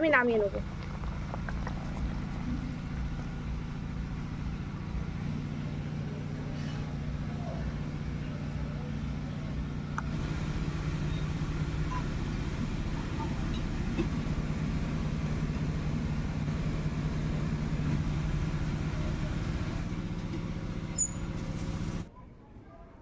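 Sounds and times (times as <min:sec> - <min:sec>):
low mechanical hum: 0:00.0 - 0:22.9.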